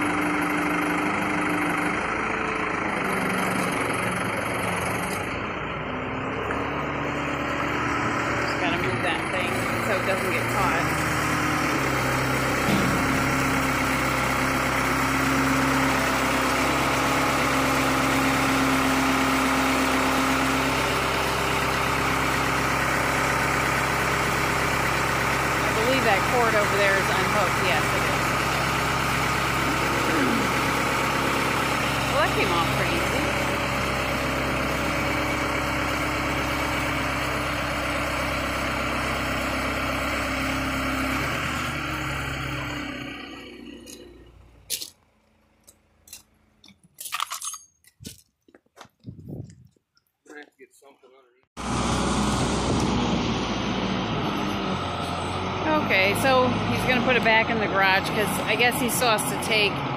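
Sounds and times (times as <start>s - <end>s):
truck engine idling: 0.0s - 46.9s, 51.6s - 59.9s.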